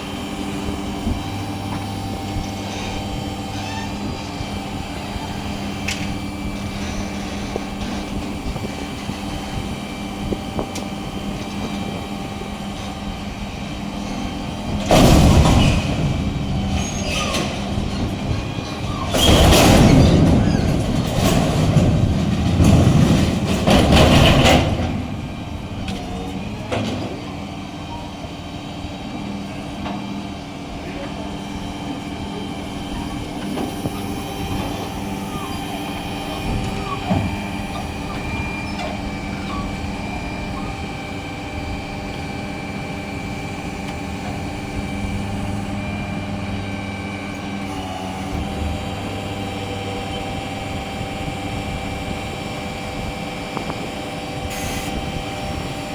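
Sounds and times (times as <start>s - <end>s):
steady engine hum: 0.0s - 55.9s.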